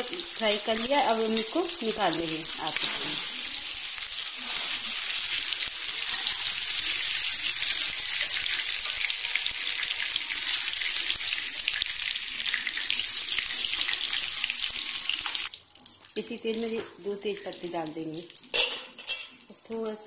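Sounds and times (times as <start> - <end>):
oil sizzling and crackling: 0.0 - 20.0.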